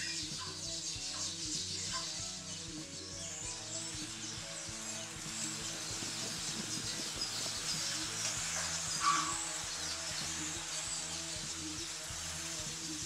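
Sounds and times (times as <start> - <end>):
soft background music chords: 0.0 - 13.0
steady high hiss: 0.0 - 13.0.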